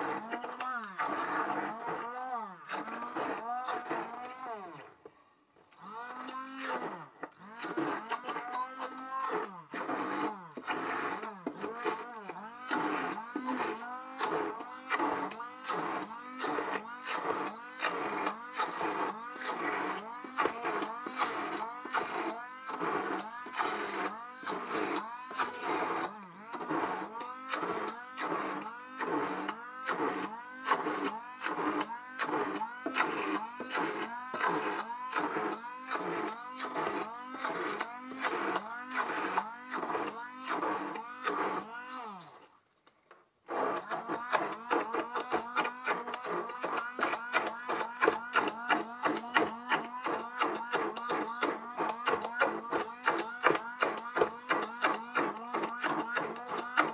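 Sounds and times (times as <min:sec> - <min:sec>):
immersion blender motor: 0:00.0 - 0:56.9.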